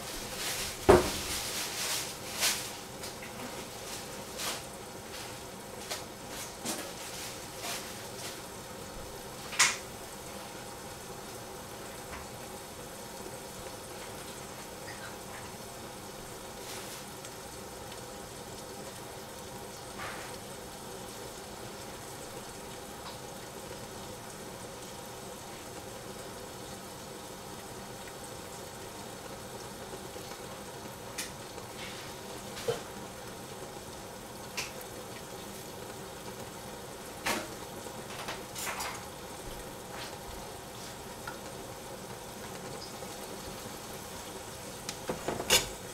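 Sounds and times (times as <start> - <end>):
saucepan simmering hiss: 0.0 - 45.9.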